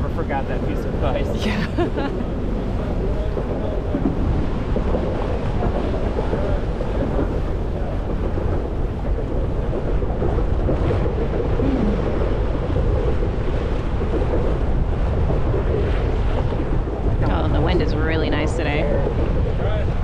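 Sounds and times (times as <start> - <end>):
water rushing along hull: 0.0 - 20.0
wind buffeting microphone: 0.0 - 20.0.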